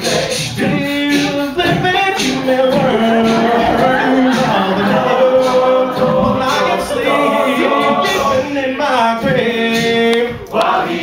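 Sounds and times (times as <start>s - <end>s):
male a cappella group singing: 0.0s - 11.0s.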